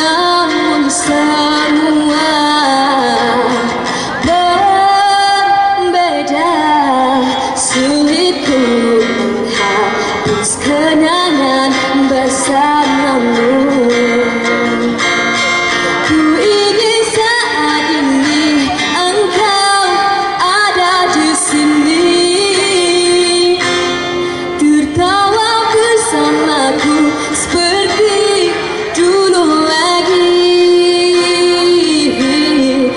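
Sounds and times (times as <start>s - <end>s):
acoustic guitar: 0.0s - 32.9s
woman singing into microphone: 0.0s - 32.9s.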